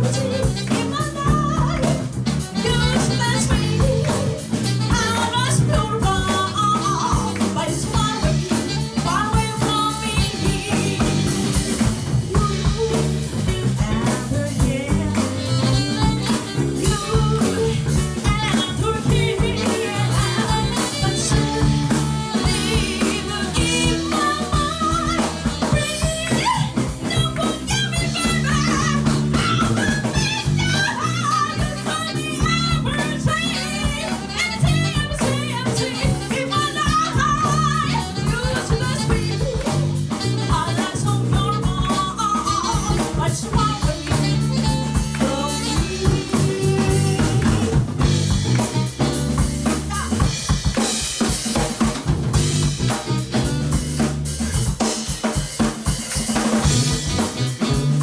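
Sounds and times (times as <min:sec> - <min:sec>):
drum kit beat: 0:00.0 - 0:58.0
live band playing: 0:00.0 - 0:58.0.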